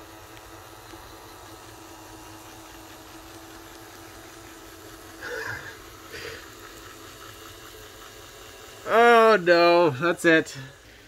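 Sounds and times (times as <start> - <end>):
model train motor humming: 0.0 - 11.0.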